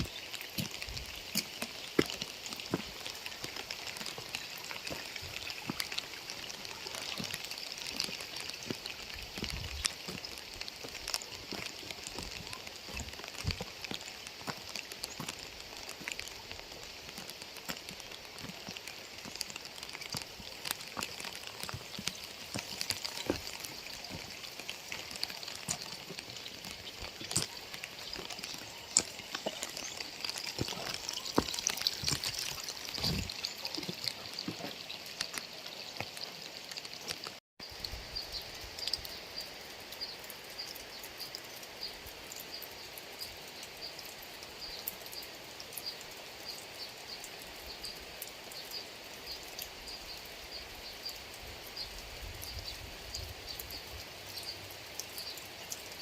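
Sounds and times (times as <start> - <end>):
raindrops striking close by: 0.0 - 56.0
steady rain: 0.0 - 56.0.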